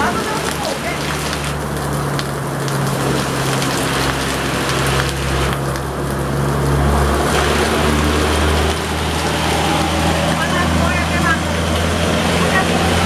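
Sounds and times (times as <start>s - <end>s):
diesel truck engine under load: 0.0s - 13.0s
rain hiss: 0.0s - 13.0s.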